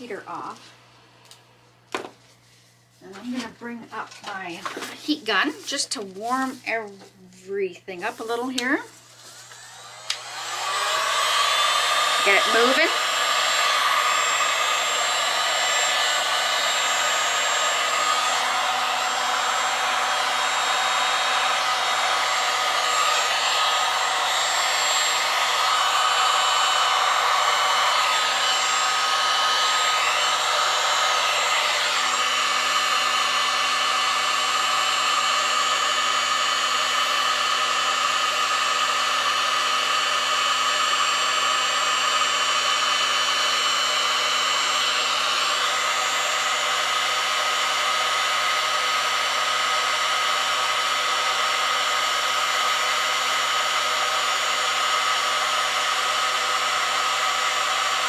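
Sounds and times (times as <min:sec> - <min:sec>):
heat gun blowing whine: 0:07.9 - 0:58.0.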